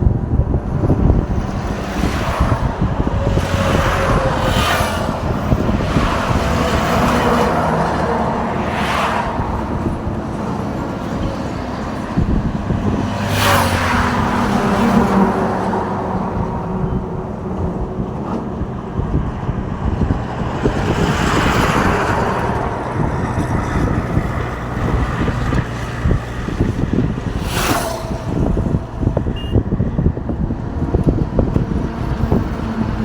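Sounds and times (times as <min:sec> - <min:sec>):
heavy engines running: 0:00.0 - 0:33.0
vehicles passing with whoosh: 0:00.0 - 0:33.0.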